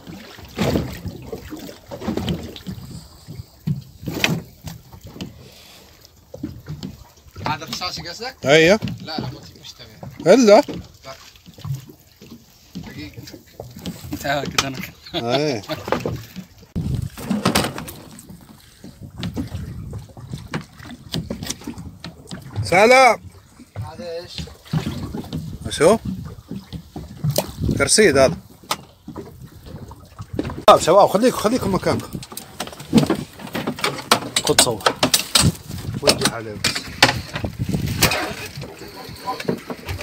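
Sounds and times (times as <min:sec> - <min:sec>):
water washing: 0:00.0 - 0:40.0
wind: 0:00.0 - 0:40.0.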